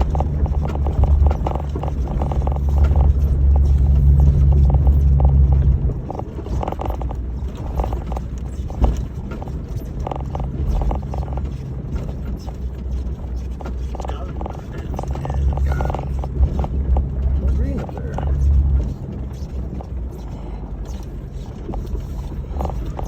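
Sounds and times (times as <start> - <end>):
knocks and rattles: 0.0 - 20.3, 20.9 - 23.0
car engine drone: 0.0 - 23.0.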